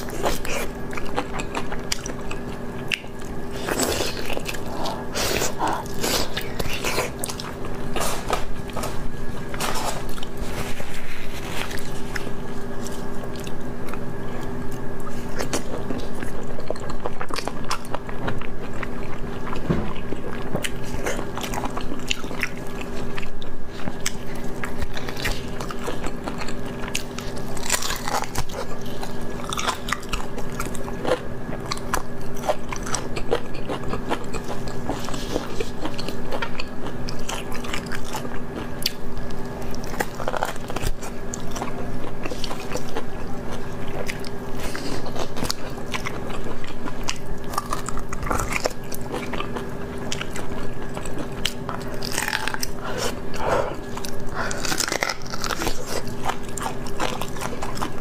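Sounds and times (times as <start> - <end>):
chewing with wet smacks: 0.0 - 58.0
steady low hum: 0.0 - 58.0.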